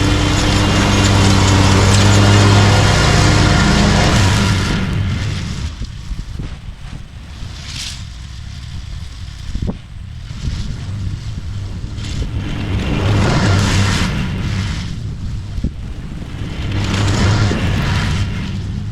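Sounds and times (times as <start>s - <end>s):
lawn mower engine: 0.0s - 18.9s.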